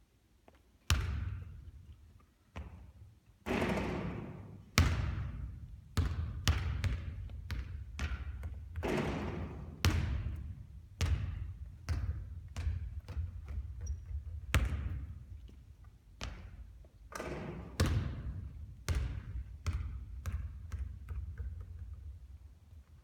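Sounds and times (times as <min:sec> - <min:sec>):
basketball bouncing on hard court: 0:00.9 - 0:01.7, 0:02.5 - 0:22.3.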